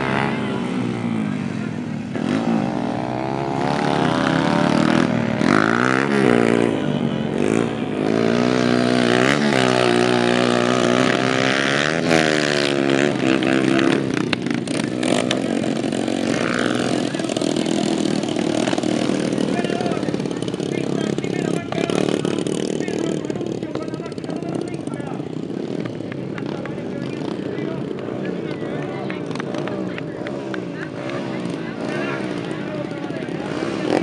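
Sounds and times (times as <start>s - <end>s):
motorcycles racing full throttle: 0.0s - 34.0s.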